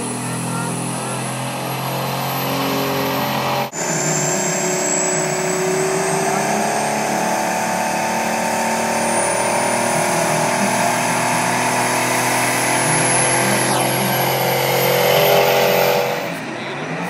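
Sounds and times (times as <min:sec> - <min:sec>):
diesel truck engine under load: 0:00.0 - 0:17.0.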